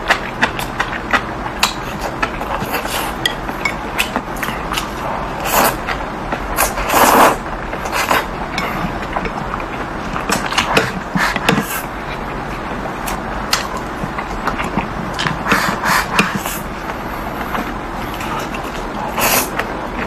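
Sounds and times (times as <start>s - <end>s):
slurping noodles: 0.4s - 13.2s, 13.8s - 19.8s.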